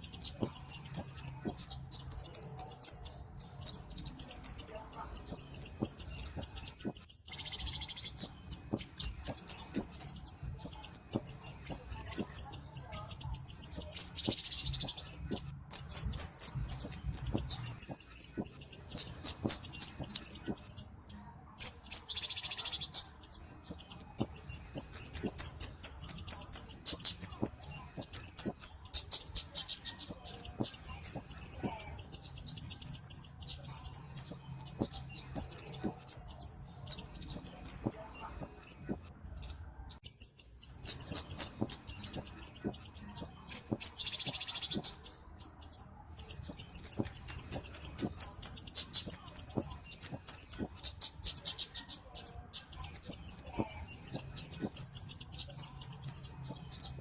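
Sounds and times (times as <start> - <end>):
bird song high-pitched chips: 0.0 - 57.0.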